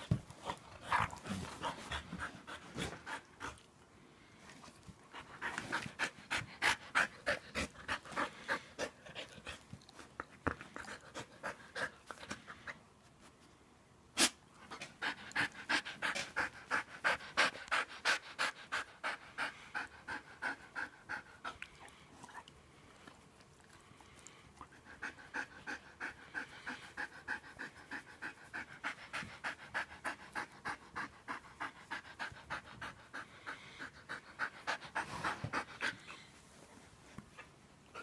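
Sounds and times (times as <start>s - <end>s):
dog panting: 0.0s - 3.7s, 4.5s - 12.8s, 14.6s - 36.4s.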